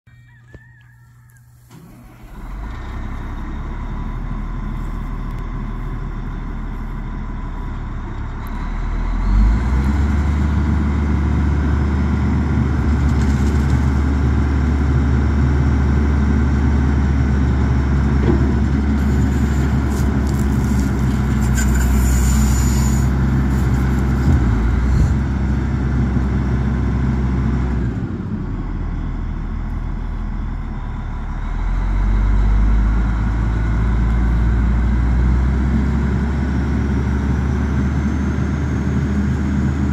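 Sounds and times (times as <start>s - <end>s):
wheel loader diesel engine: 1.6s - 39.9s.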